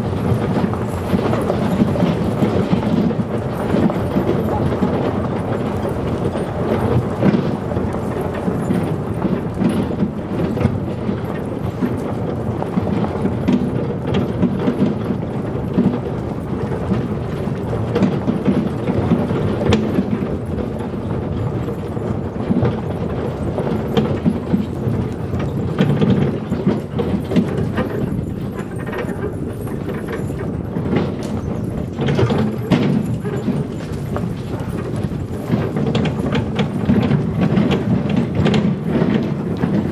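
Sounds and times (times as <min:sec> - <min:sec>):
cart rolling on gravel: 0:00.0 - 0:39.9
dogs' feet clicking: 0:00.0 - 0:39.9.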